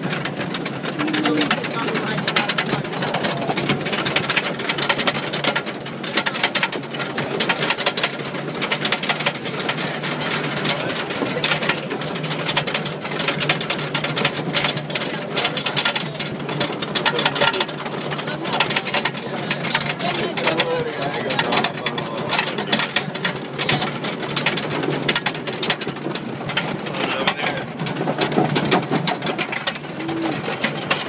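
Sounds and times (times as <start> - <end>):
roller coaster lift chain clacking: 0.0 - 31.0.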